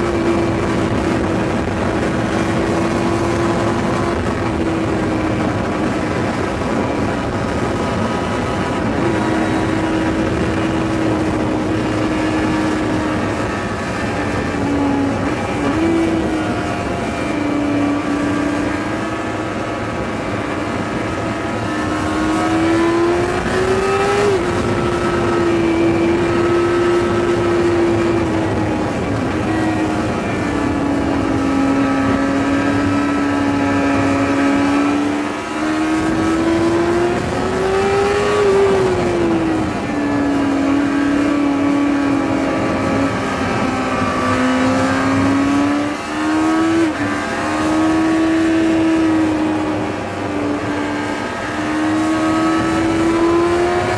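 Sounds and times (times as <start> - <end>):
motorcycle engine at high revs: 0.0 - 53.9
wind noise: 0.0 - 53.9.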